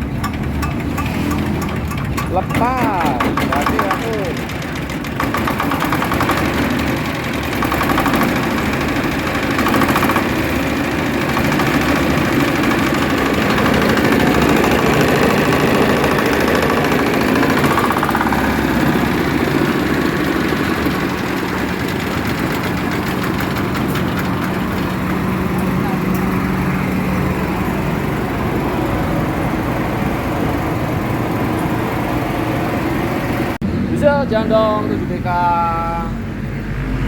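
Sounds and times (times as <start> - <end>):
diesel engine knocking steadily: 0.0 - 33.6.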